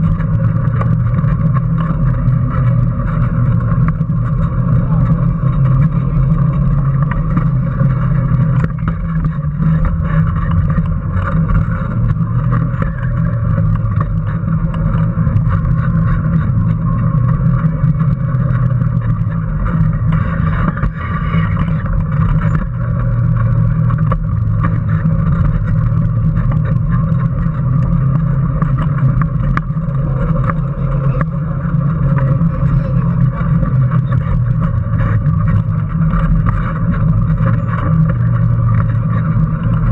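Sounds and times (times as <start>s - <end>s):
chassis rattles and clicks: 0.0s - 39.9s
electric motor drone: 0.0s - 39.9s.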